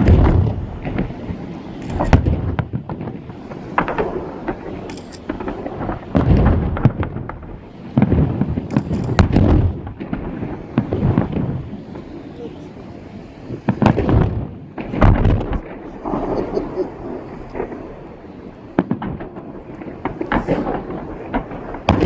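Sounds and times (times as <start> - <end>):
fireworks booming and cracking: 0.0 - 22.0.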